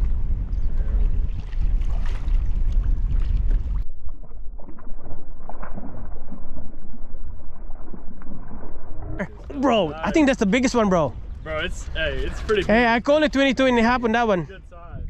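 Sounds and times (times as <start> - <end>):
water: 0.0 - 14.5
wind rumbling on microphone: 0.0 - 15.0.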